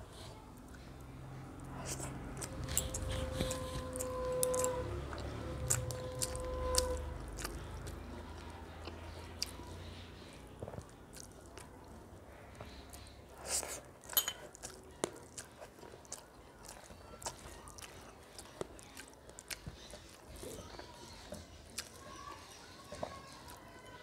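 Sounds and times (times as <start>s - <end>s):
wet chewing and mouth clicks: 1.6s - 12.0s, 12.6s - 23.6s.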